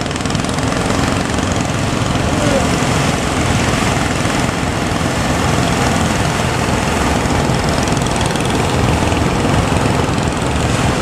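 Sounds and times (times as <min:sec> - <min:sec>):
boat engine running: 0:00.0 - 0:11.0
surf: 0:00.0 - 0:11.0.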